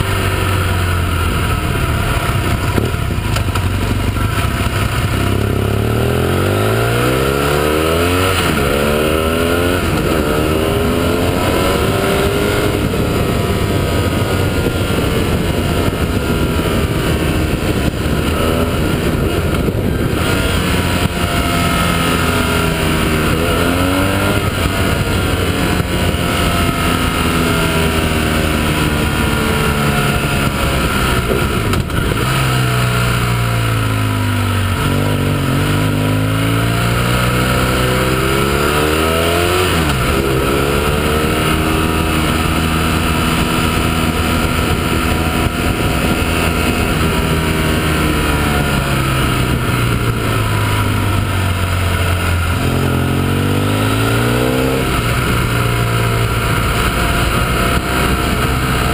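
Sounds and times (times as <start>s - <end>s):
motorcycle engine accelerating: 0.0s - 58.9s
wind and road noise: 0.0s - 58.9s.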